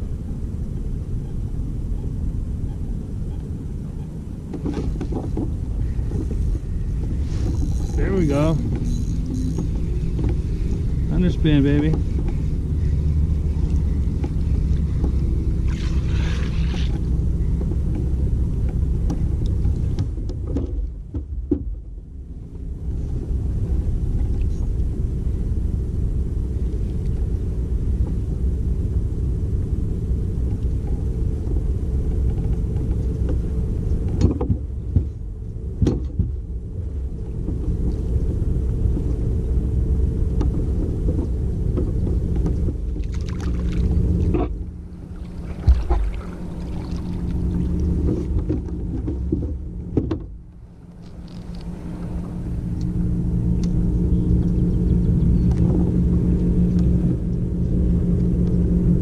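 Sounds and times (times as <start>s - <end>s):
kayak motor rumble and hum: 0.0s - 59.0s.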